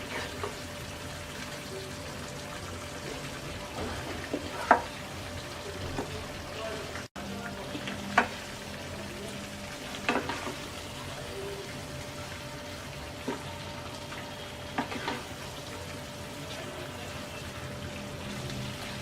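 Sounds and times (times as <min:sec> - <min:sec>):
eggplant sizzling in a pan: 0:00.0 - 0:19.0.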